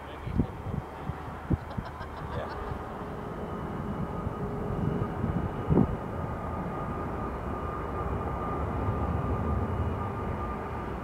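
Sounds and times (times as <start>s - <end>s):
deep jet engine rumble: 0.0s - 11.0s
faint engine whine: 0.0s - 11.0s.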